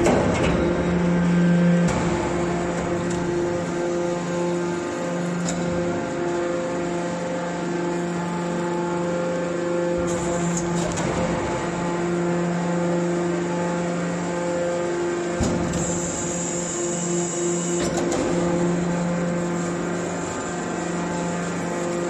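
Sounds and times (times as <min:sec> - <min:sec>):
hydraulic baler humming: 0:00.0 - 0:22.0.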